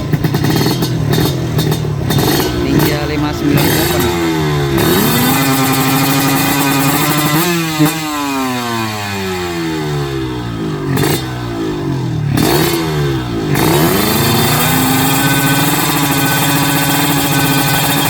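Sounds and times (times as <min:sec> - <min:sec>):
motorcycles passing by: 0:00.0 - 0:18.0
motorcycles revving high: 0:00.0 - 0:18.0.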